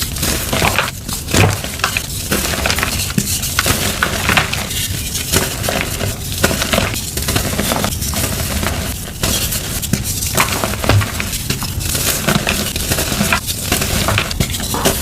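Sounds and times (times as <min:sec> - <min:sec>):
chalk crushing and crackling: 0:00.0 - 0:15.0.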